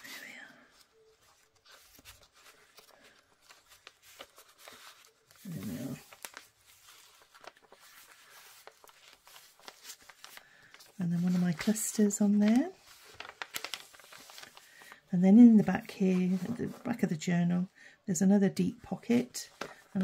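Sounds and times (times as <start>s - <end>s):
paper and card rustling: 0.0s - 17.3s, 18.8s - 20.0s.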